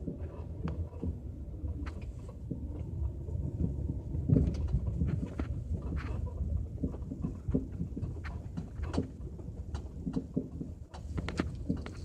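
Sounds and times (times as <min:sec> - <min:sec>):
low road rumble: 0:00.0 - 0:12.0
suspension knocks and rattles: 0:00.0 - 0:12.0.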